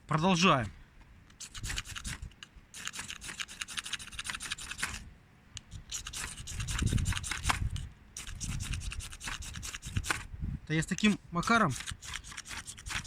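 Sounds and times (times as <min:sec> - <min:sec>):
ferro rod scraping: 0:01.3 - 0:10.3, 0:11.0 - 0:13.0.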